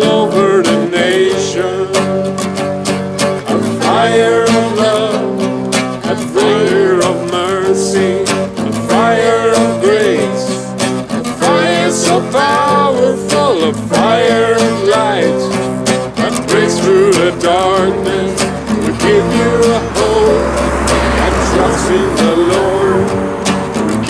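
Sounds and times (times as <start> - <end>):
acoustic guitar strumming: 0.0 - 24.0
keyboard chords: 0.0 - 24.0.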